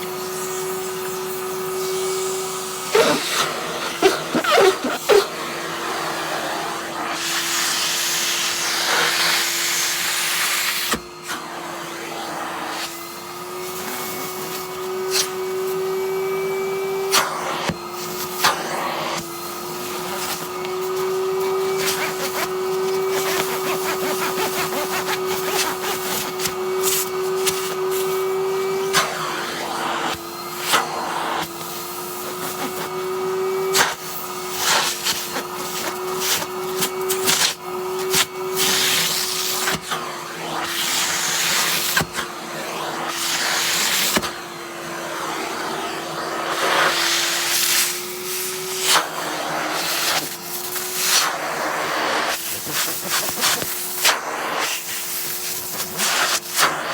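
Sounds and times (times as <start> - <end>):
vacuum cleaner running: 0.0 - 56.9.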